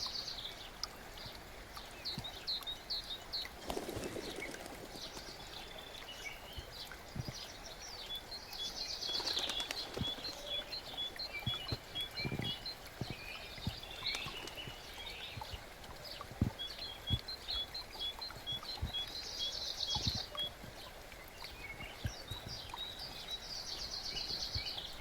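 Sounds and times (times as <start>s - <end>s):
brook trickling and gurgling: 0.0s - 25.0s
songbirds chirping and trilling: 0.0s - 25.0s.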